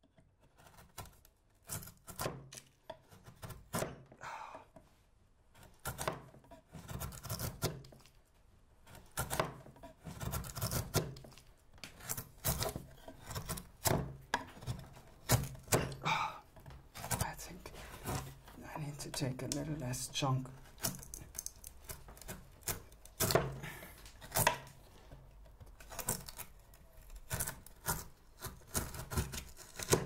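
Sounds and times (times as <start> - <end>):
chisel carving wood: 0.0 - 8.2, 8.8 - 30.0.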